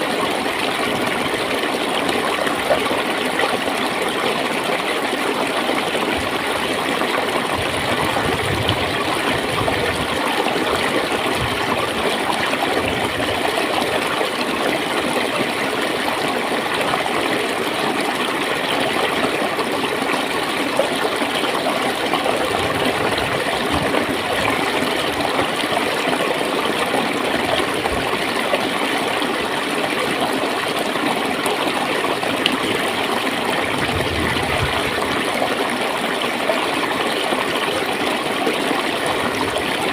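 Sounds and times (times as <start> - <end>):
small water splashes: 0.0 - 39.9
water flowing and gurgling: 0.0 - 39.9.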